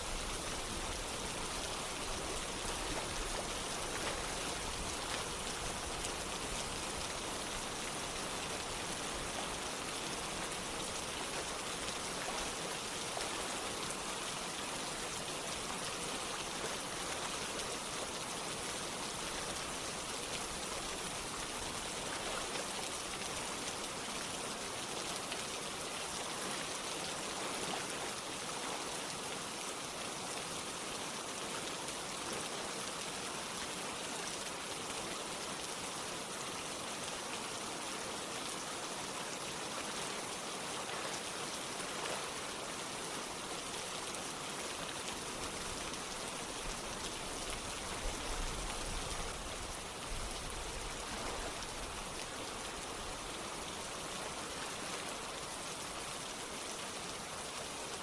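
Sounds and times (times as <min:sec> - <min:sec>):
running water: 0:00.0 - 0:58.0
steady rain falling: 0:00.0 - 0:58.0.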